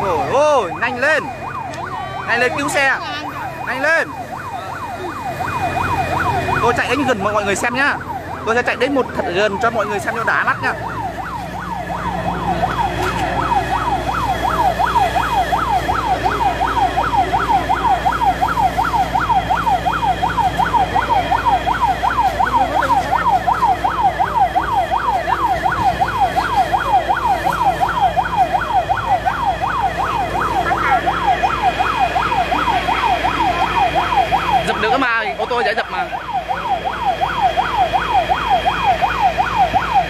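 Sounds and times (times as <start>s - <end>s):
fire truck siren yelping: 0.0s - 40.0s.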